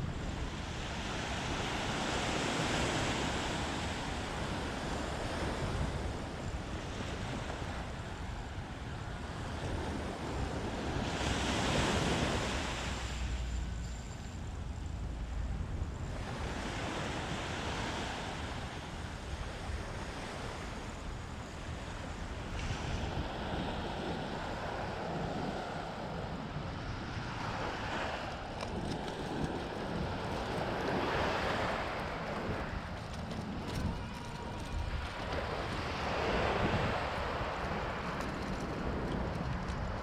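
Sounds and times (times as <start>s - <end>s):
sea waves breaking on shore: 0.0s - 14.4s, 15.0s - 40.0s
wind rumbling on microphone: 0.0s - 40.0s.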